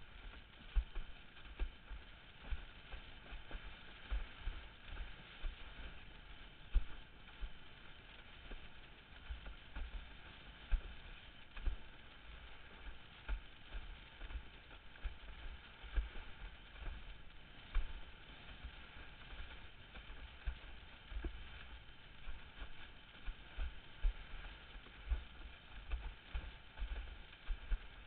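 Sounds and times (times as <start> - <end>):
rush of water: 0.0 - 28.0.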